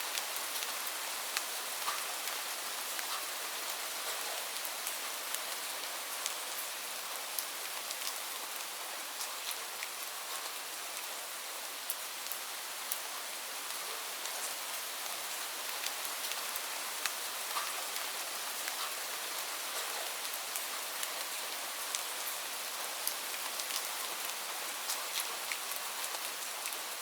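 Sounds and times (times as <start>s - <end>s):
raindrops ticking on surface: 0.1s - 11.2s, 11.8s - 27.0s.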